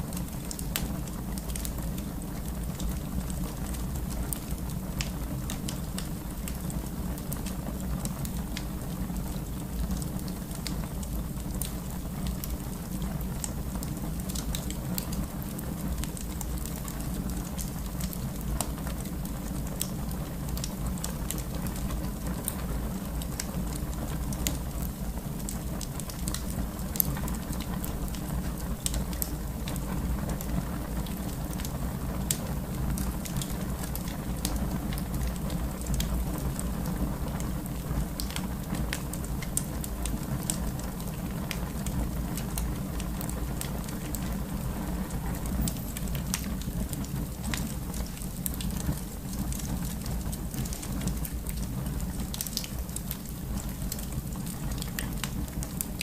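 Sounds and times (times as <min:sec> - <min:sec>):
fire low rumble: 0:00.0 - 0:56.0
wood fire crackling: 0:00.0 - 0:56.0.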